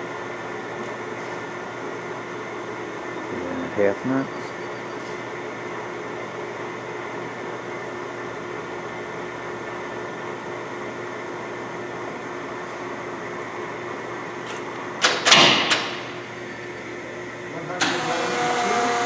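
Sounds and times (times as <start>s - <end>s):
lathe whine and hum: 0.0s - 15.2s, 15.8s - 19.0s.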